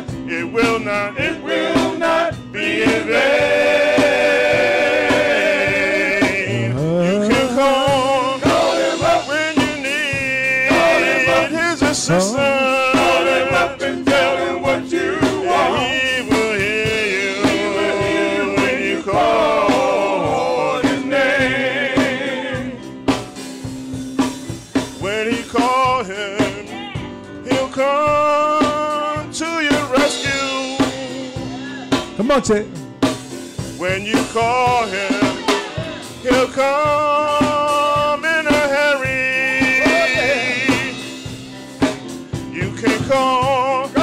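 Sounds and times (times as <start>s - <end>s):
male vocal group singing gospel: 0.0s - 23.5s, 24.2s - 44.0s
drum kit: 0.0s - 44.0s
keyboard: 0.0s - 44.0s.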